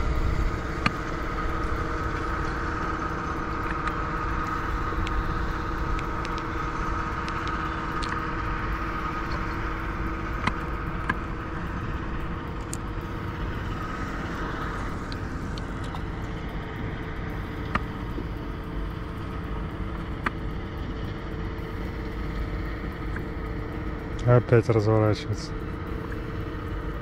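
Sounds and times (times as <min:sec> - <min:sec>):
steady hum tones: 0:00.0 - 0:27.0
vehicle drone: 0:00.0 - 0:27.0.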